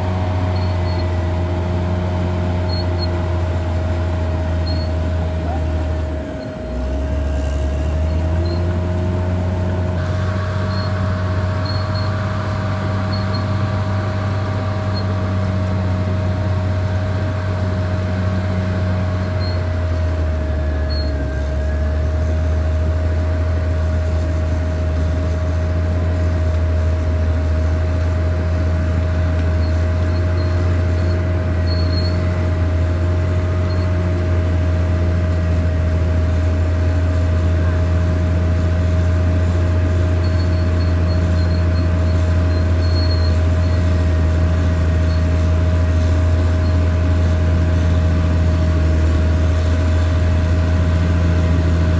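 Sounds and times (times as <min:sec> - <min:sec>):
bulldozer diesel engine drone: 0:00.0 - 0:51.9
high whine: 0:00.0 - 0:51.9.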